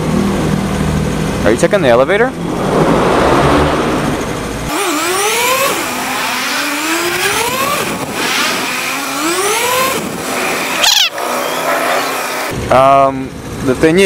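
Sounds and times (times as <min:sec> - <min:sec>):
motorcycle engine revving: 0:00.0 - 0:12.7.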